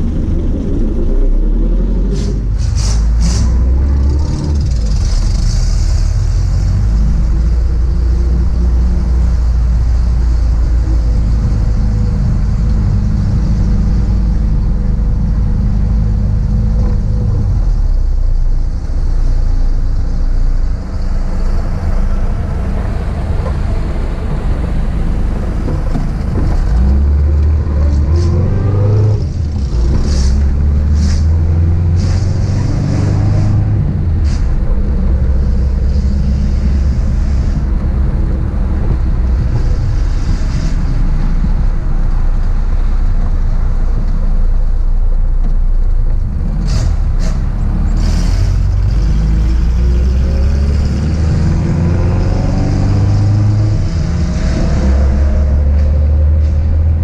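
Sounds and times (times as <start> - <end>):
road noise: 0.0 - 57.0
wind noise: 0.0 - 57.0.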